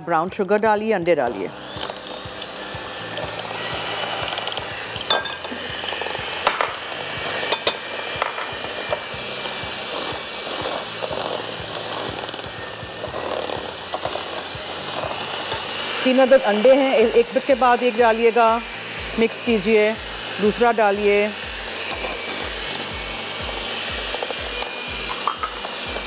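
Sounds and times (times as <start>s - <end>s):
electric mixer motor whirring: 0.0s - 26.0s.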